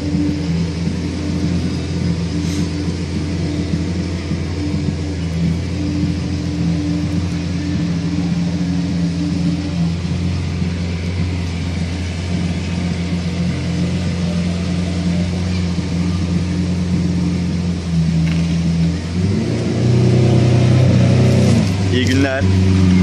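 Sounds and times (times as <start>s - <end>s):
car engine idling: 0.0s - 23.0s
car engine revving: 0.0s - 23.0s.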